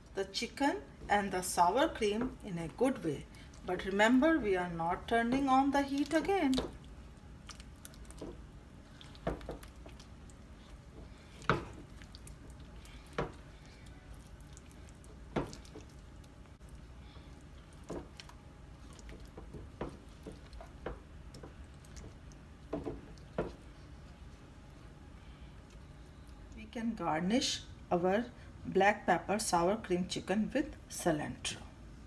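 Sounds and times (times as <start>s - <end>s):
soft squelches of sauce stirring: 0.0s - 26.6s.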